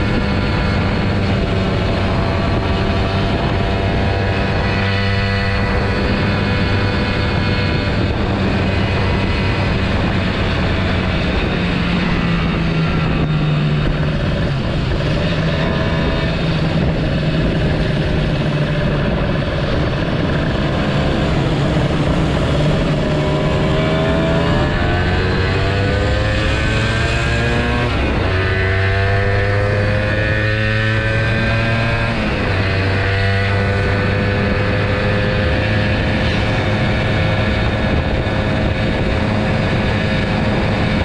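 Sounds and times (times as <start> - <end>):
motorcycle engine running: 0.0 - 41.0
wind noise: 0.0 - 41.0.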